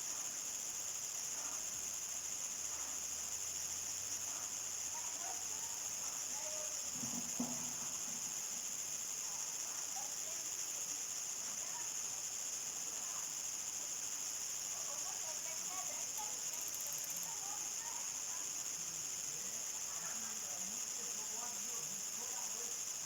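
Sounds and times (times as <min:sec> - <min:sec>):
crickets chorus: 0:00.0 - 0:23.0.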